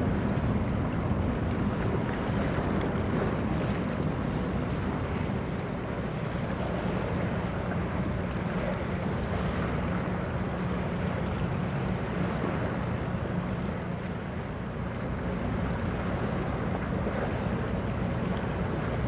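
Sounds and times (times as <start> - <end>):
ship diesel engine drone: 0.0 - 19.0
water rushing from bow wave: 0.0 - 19.0.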